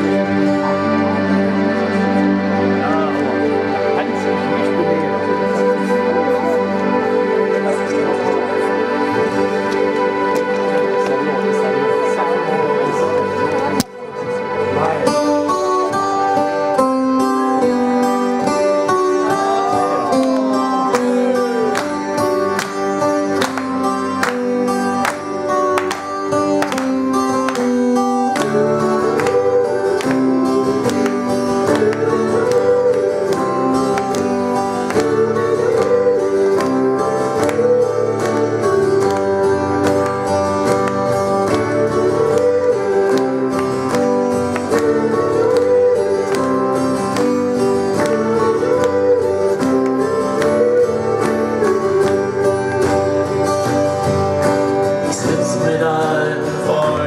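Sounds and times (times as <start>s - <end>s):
guitars: 0.0s - 57.0s.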